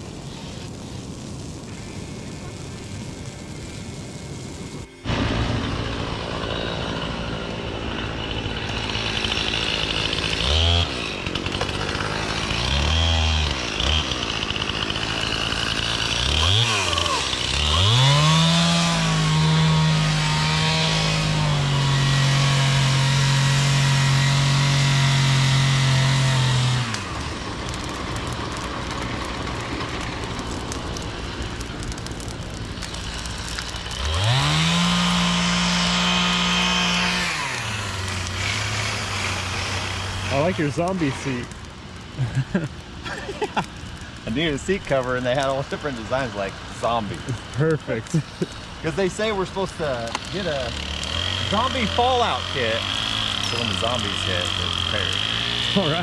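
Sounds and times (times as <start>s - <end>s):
chainsaw revving and idling: 1.7s - 56.0s.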